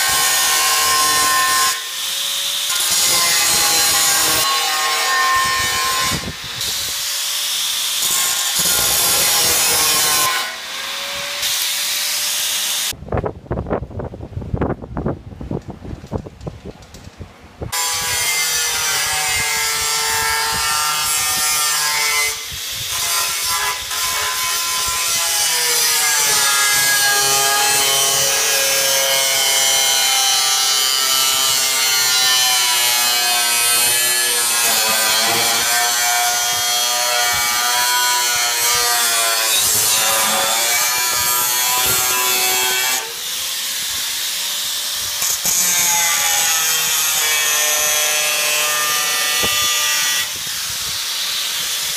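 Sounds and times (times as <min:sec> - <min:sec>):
angle grinder cutting metal: 0:00.0 - 0:13.0, 0:17.7 - 0:51.9.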